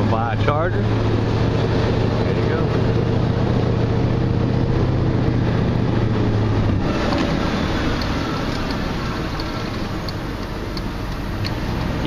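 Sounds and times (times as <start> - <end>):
low engine hum: 0.0 - 12.0
road and wind noise: 0.0 - 12.0.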